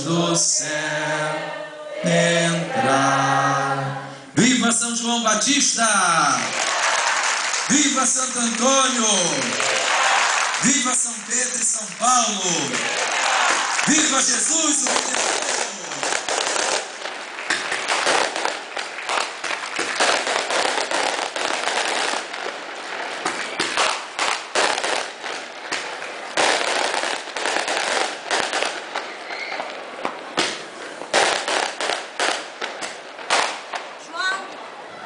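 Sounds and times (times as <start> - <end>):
firecrackers cracking: 5.8 - 34.1.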